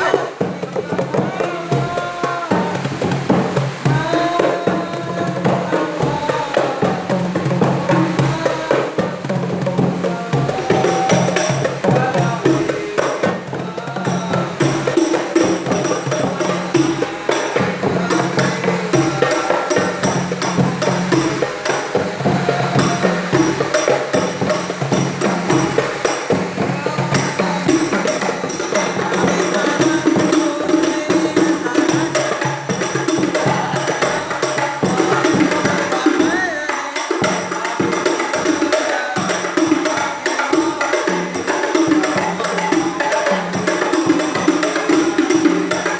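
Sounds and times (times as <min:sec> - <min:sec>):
frame drums played by hand: 0:00.0 - 0:45.9.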